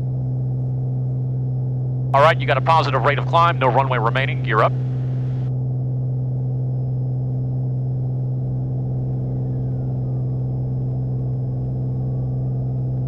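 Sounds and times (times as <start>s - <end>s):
faint gliding whine: 0.0s - 13.0s
plane engine and propeller drone: 0.0s - 13.0s.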